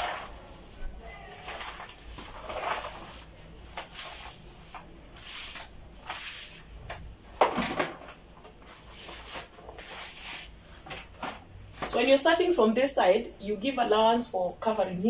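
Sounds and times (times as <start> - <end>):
wallpaper rustling and crackling: 0.0 - 12.3.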